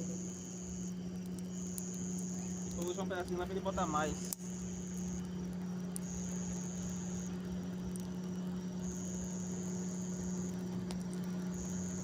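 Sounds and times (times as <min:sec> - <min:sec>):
insects trilling: 0:00.0 - 0:12.0
steady low hum: 0:00.0 - 0:12.0.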